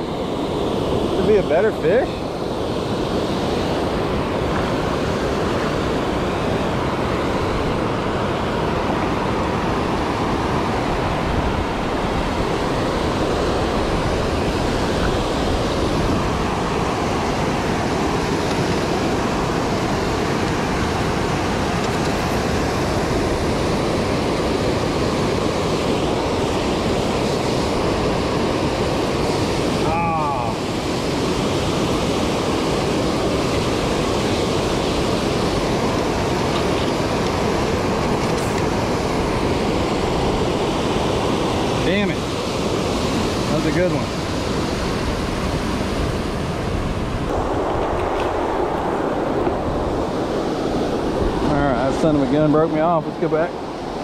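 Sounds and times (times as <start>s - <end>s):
water rushing over spillway: 0.0s - 54.0s.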